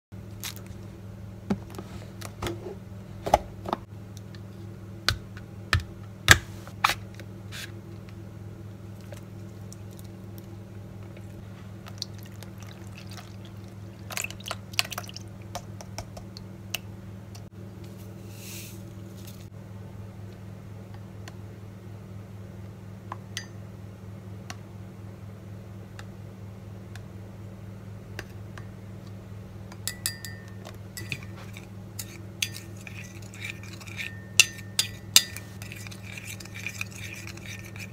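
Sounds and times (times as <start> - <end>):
steady low hum: 0.1 - 37.9.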